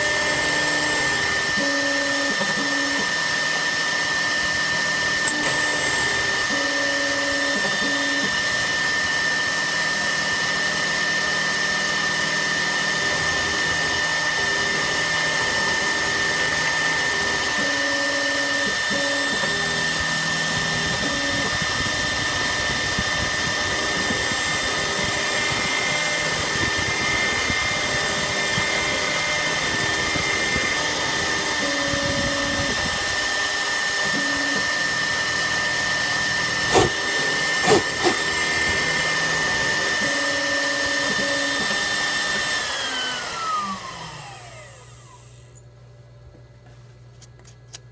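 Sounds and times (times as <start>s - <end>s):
router cutting metal: 0.0s - 45.6s
high spindle whine: 0.0s - 45.7s.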